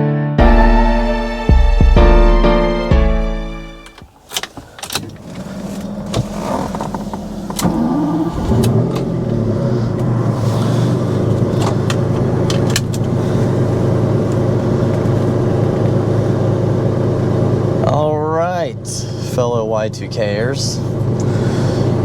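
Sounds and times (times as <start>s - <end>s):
car engine starting and idling: 0.4s - 22.0s.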